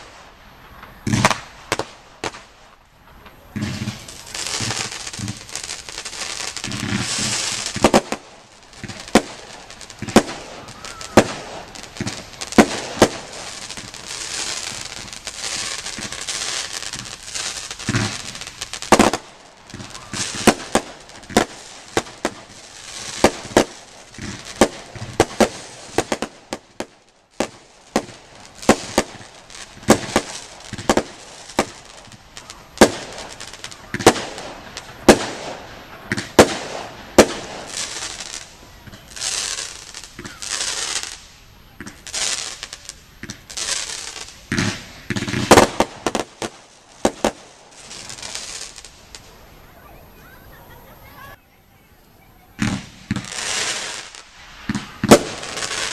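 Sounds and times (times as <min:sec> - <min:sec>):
fireworks bangs: 0:00.0 - 0:55.9
fireworks hissing and crackling: 0:00.0 - 0:55.9.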